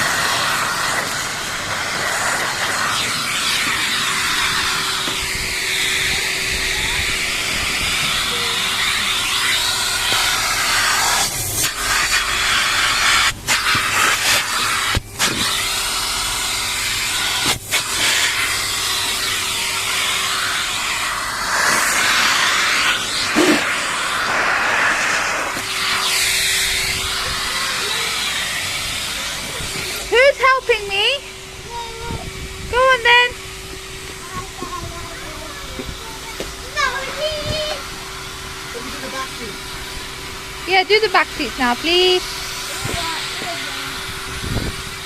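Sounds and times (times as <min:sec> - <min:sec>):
vacuum cleaner running: 0:00.0 - 0:45.0.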